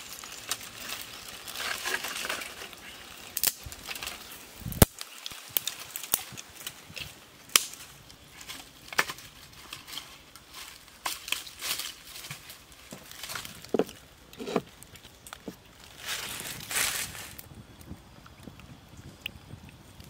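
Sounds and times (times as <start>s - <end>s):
fire hissing: 0.0s - 9.6s, 12.6s - 20.0s
twigs and leaves crackling in fire: 0.0s - 20.0s.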